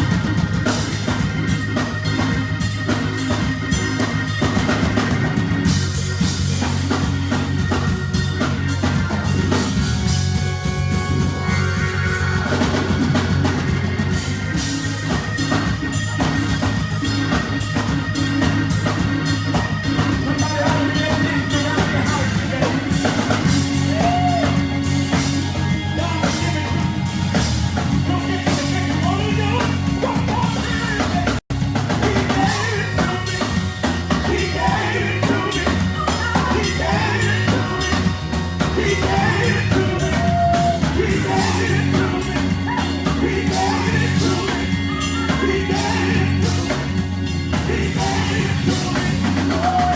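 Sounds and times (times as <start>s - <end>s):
drum kit and bass: 0.0s - 49.9s
gospel singing: 0.0s - 49.9s.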